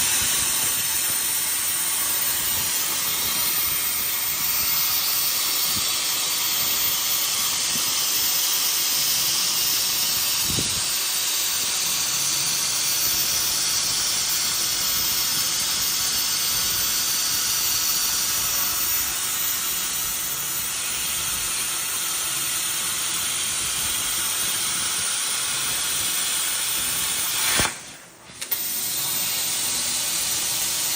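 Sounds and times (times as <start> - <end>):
plasma torch hissing: 0.0 - 29.4.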